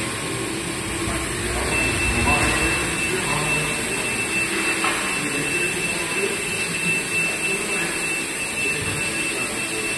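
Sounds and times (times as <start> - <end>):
mechanical hiss with high whine: 0.0 - 9.9
faint voices: 0.4 - 9.9.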